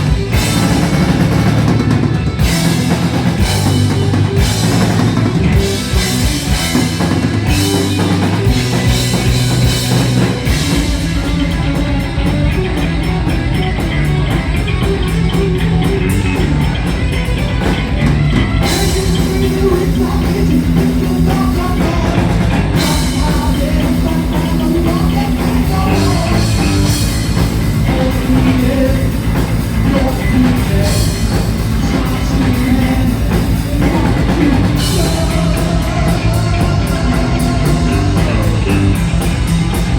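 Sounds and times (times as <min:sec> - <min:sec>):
heavy metal band playing: 0:00.0 - 0:39.9
rapid bass drum beat: 0:00.0 - 0:39.9.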